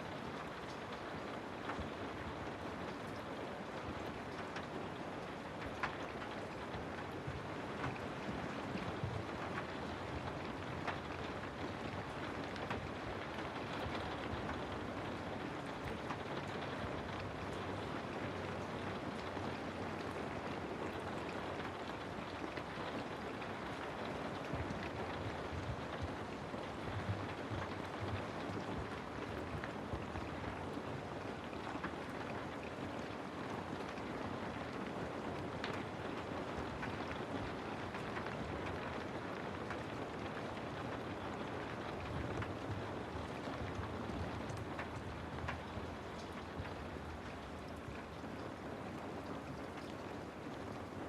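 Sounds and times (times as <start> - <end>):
raindrops ticking on a surface: 0.0 - 51.0
steady rain: 0.0 - 51.0.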